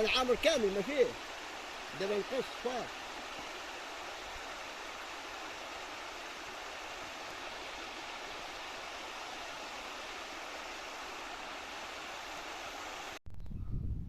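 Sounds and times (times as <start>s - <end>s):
stream water rushing: 0.0s - 13.2s.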